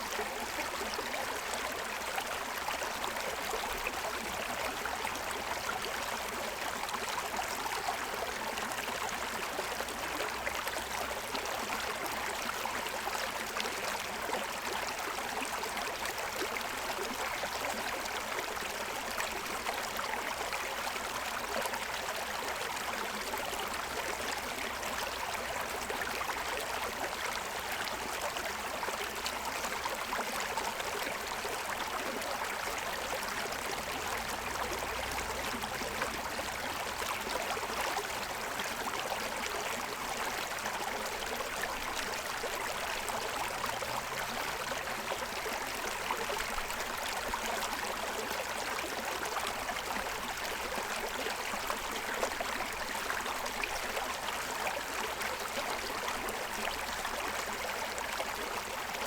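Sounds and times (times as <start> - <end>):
stream babbling over stones: 0.1 - 59.0.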